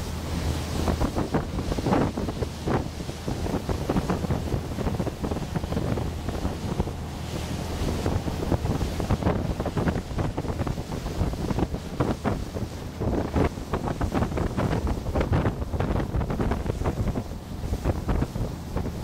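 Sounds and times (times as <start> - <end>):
low engine drone: 0.0 - 19.0
water rushing from wake: 0.0 - 19.0
wind buffeting microphone: 0.0 - 19.0.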